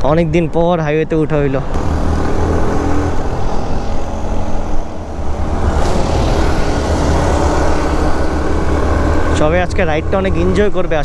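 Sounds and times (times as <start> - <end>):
motorcycle engine cruising: 1.6 - 11.0.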